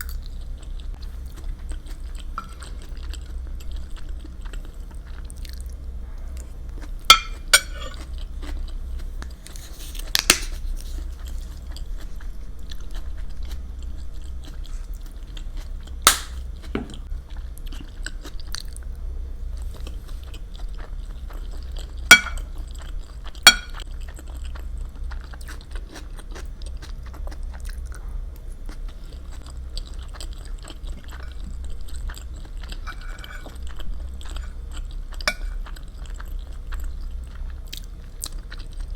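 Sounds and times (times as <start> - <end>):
close chewing and eating: 0.0 - 38.9.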